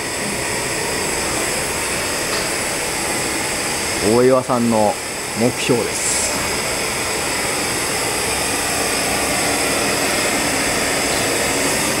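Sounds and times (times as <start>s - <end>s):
workshop machinery droning: 0.0s - 12.0s.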